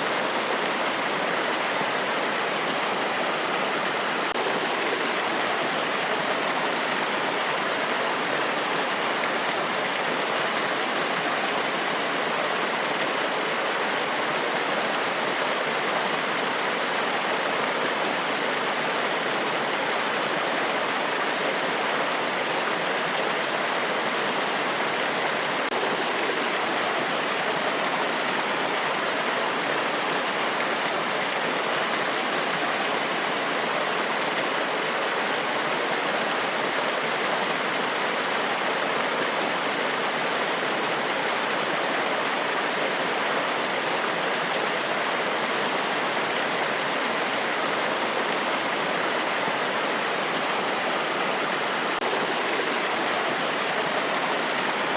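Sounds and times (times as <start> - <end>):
waterfall splashing over rocks: 0.0 - 54.9.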